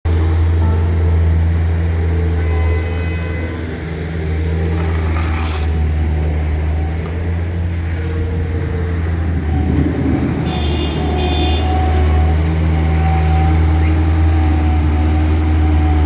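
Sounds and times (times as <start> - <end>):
heavy vehicle engine humming: 0.0 - 16.0.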